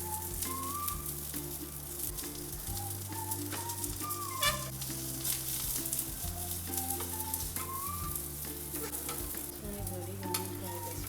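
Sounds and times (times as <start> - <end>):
background music: 0.0 - 11.0
dumplings sizzling in oil: 0.0 - 11.0.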